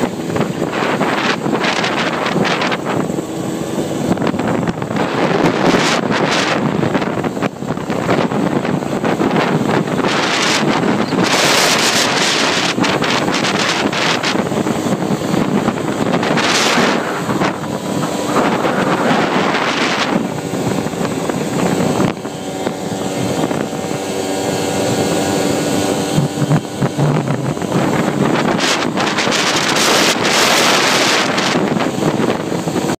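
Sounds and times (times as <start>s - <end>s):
atv engine running: 0.0s - 33.0s
wind buffeting microphone: 0.0s - 33.0s.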